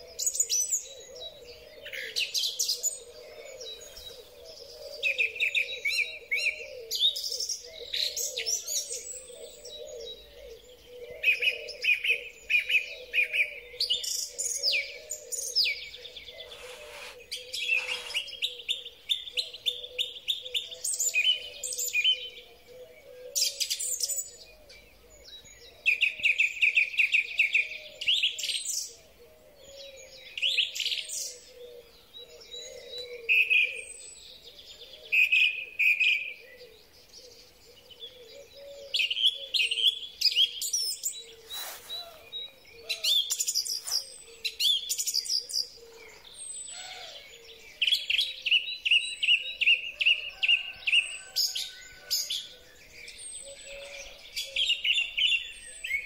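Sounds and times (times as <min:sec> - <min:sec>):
song thrush singing: 0:00.0 - 0:56.0.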